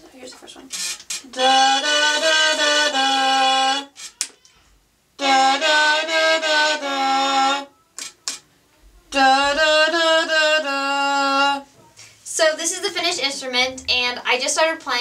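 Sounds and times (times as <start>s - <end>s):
electronically altered singing voice: 1.2s - 3.9s, 5.2s - 15.0s.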